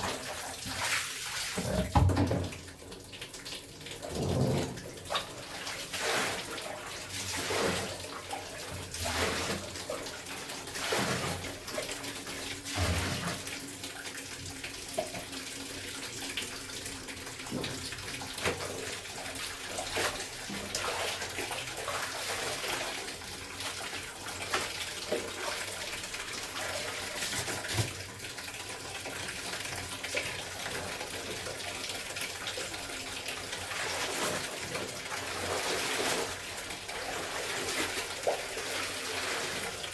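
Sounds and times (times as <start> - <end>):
water sloshing and splashing: 0.0 - 15.6, 16.6 - 39.9.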